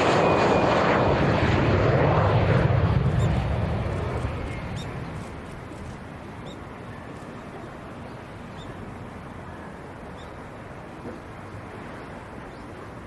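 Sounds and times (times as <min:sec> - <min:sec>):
jet passing: 0:00.0 - 0:13.0
steady low rumble: 0:00.0 - 0:13.0.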